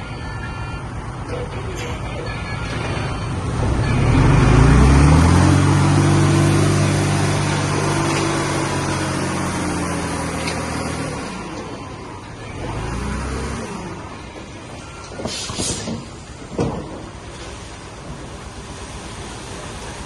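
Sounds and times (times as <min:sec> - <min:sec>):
diesel engine revving: 0:02.5 - 0:20.0.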